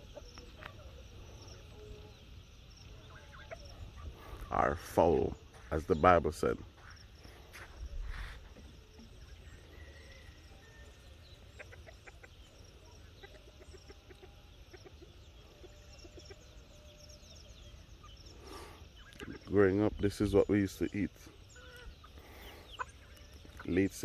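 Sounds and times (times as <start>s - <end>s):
chickens clucking faintly: 0.0s - 24.0s.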